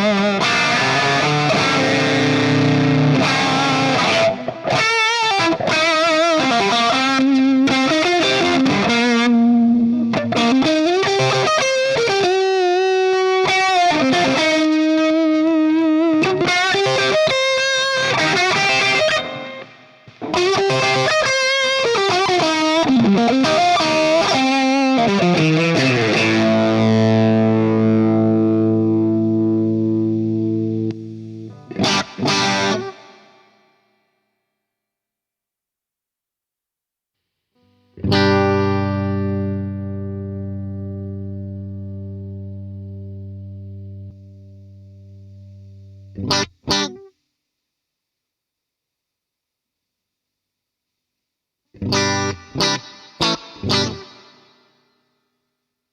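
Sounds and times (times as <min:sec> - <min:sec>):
overdriven electric guitar: 0:00.0 - 0:33.7, 0:37.6 - 0:47.1, 0:51.7 - 0:54.8.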